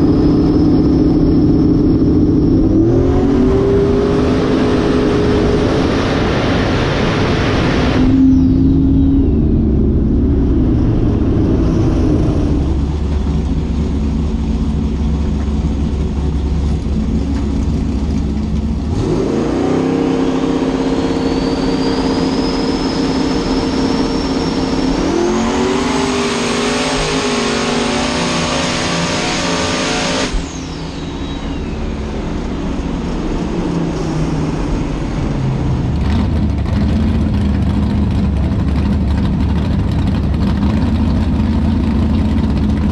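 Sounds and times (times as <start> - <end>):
drag race car engine: 0.0 - 42.9.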